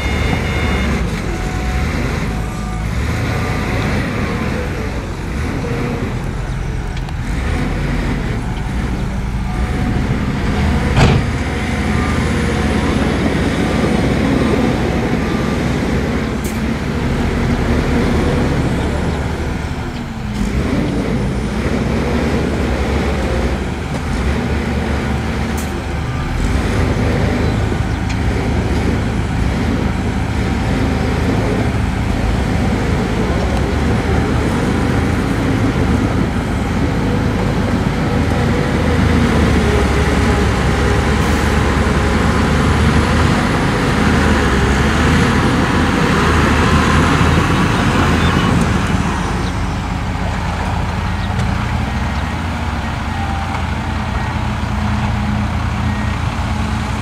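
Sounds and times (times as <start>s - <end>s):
diesel earthmoving machinery running: 0.0s - 57.0s.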